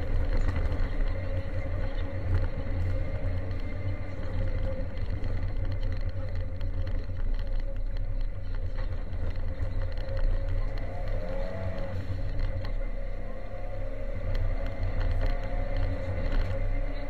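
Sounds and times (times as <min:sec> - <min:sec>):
car engine running: 0:00.0 - 0:17.0
road and drivetrain rumble: 0:00.0 - 0:17.0.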